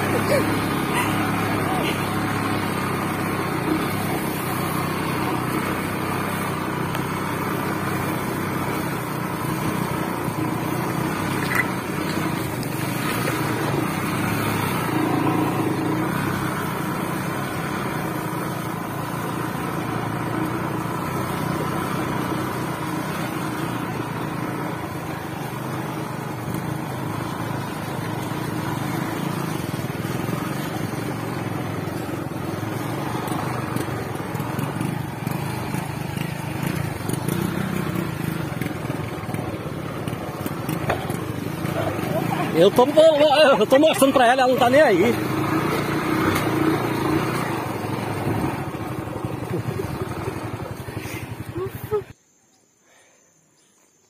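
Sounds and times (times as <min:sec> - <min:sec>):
motorcycle engine running: 0:00.0 - 0:52.3.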